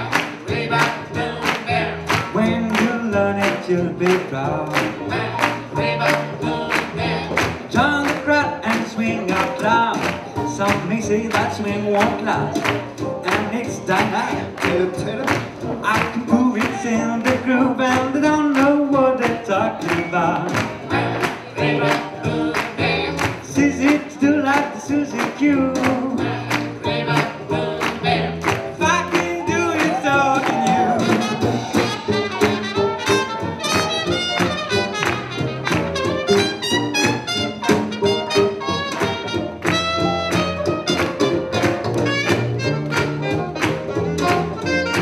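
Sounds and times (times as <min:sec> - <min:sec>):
swing jazz band playing: 0:00.0 - 0:45.0.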